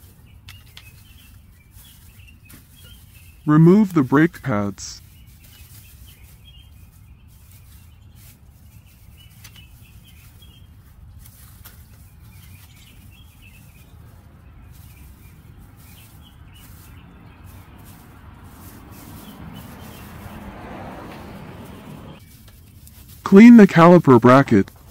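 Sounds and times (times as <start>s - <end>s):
birds chirping: 0.0s - 22.4s.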